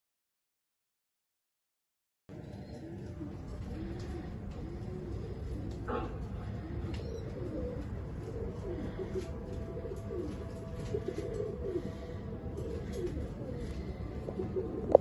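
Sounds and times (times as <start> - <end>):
pigeons cooing: 2.3 - 15.0.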